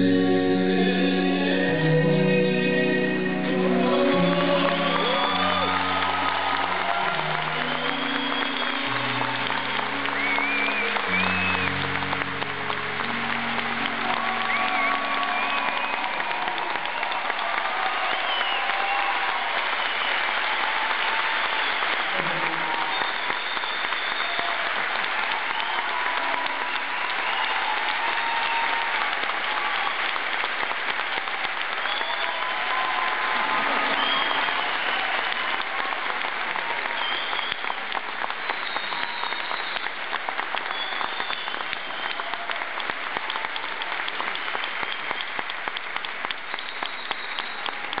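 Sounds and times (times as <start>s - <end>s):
audience applauding: 0.0s - 48.0s
people cheering: 0.9s - 48.0s.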